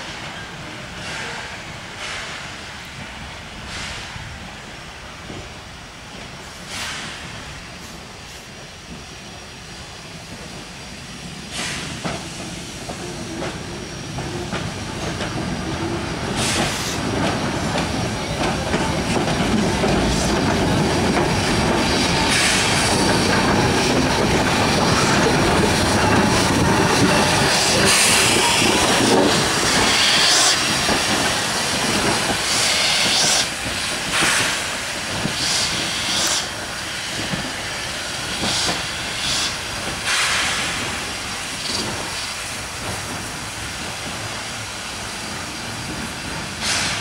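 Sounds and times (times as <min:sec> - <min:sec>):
steam locomotive wheels rumbling: 0:00.0 - 0:47.0
steam hissing: 0:06.3 - 0:47.0.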